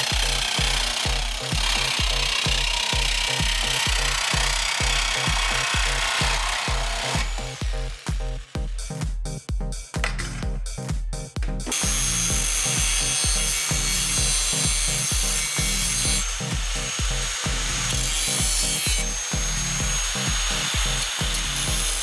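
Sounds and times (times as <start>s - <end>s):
angle grinder cutting steel: 0.0s - 8.6s, 11.7s - 22.0s
electronic music with steady beat: 0.0s - 22.0s.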